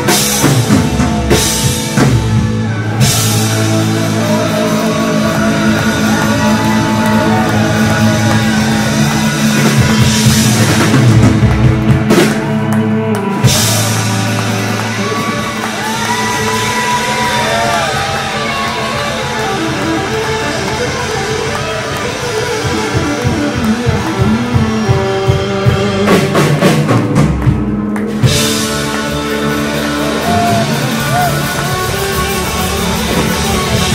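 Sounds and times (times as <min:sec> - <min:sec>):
rock band playing: 0:00.0 - 0:33.9
slide electric guitar: 0:00.0 - 0:33.9.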